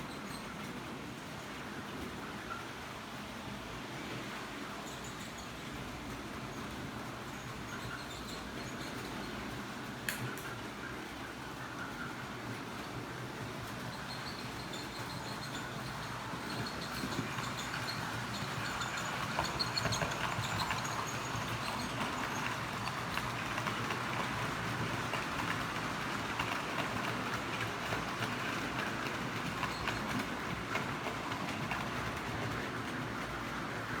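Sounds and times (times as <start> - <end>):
wheels clicking over rails: 0.0 - 34.0
model train whirring: 3.8 - 34.0.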